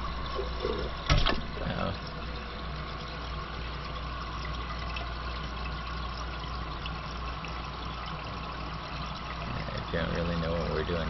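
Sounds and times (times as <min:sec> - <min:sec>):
toilet tank refilling: 0:00.0 - 0:11.0.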